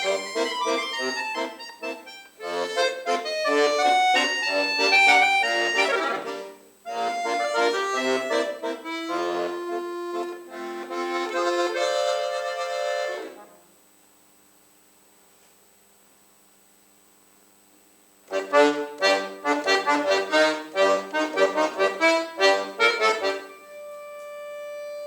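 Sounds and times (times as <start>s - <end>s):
accordion chords: 0.0s - 13.8s, 18.3s - 25.0s.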